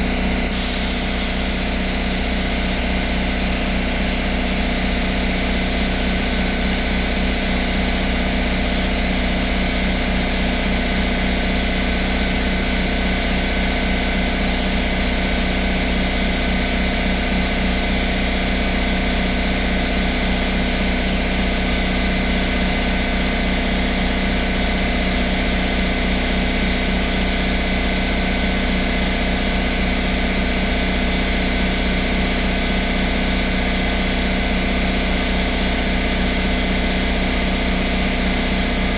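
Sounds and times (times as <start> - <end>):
air supply motor drone: 0.0 - 38.9
spray gun hissing: 0.5 - 26.0, 28.3 - 30.0, 30.8 - 38.9.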